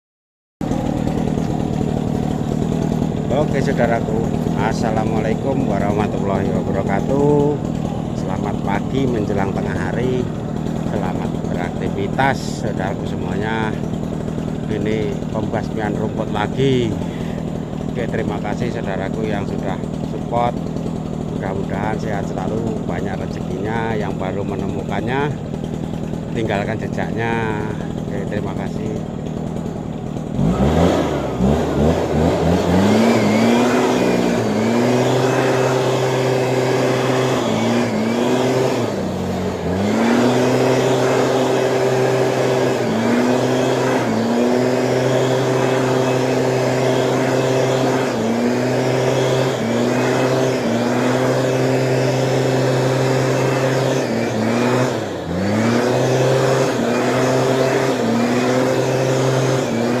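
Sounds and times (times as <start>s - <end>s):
small engine running at high speed: 0.6s - 60.0s.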